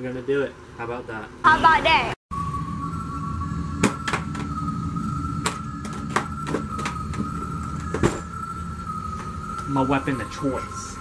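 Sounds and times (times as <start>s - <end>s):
steady high hum: 0.0s - 11.0s.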